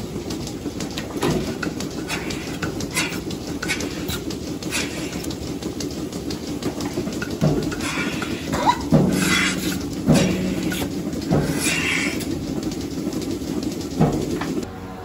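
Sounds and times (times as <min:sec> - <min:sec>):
milking machinery humming: 0:00.0 - 0:15.0
air hisses and clicks: 0:00.2 - 0:14.7.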